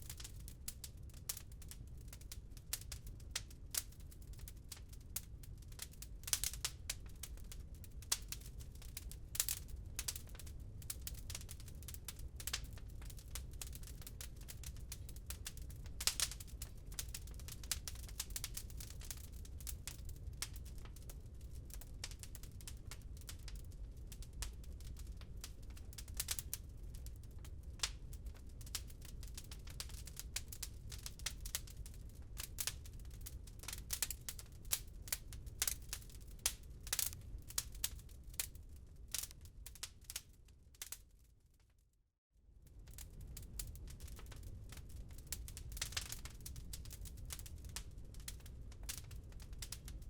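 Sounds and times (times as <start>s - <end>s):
wood fire crackling: 0.0s - 41.3s, 42.7s - 50.0s
low fire rumble: 0.0s - 41.6s, 42.6s - 50.0s.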